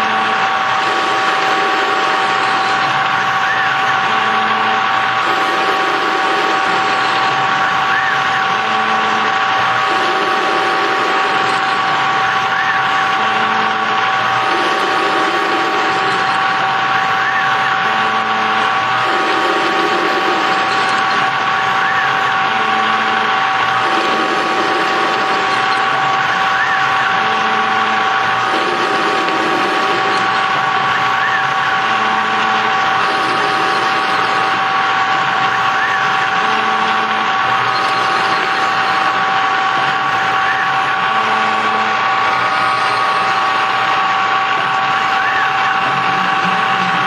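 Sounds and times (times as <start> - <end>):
lathe two-note whine: 0.0 - 47.0.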